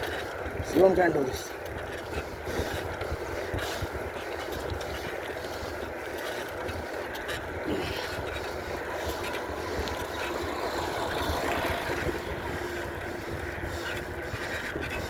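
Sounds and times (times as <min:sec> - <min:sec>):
bicycle rolling rumble: 0:00.0 - 0:15.0
wind buffeting microphone: 0:00.0 - 0:15.0.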